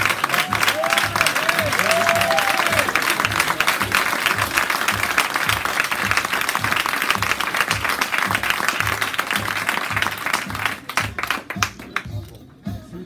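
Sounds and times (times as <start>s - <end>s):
audience applauding: 0.0s - 12.1s
background music with steady beat: 0.0s - 13.0s.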